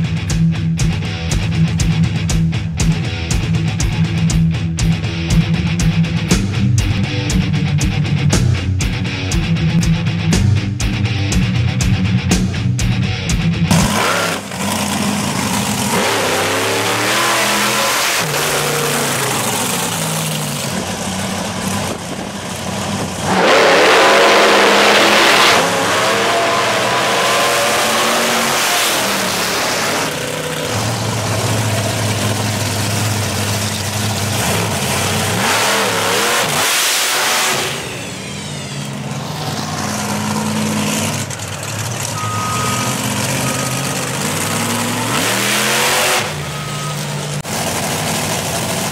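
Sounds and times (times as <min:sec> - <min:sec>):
monster truck engines revving: 0:00.0 - 0:48.9
truck accelerating hard: 0:00.0 - 0:48.9.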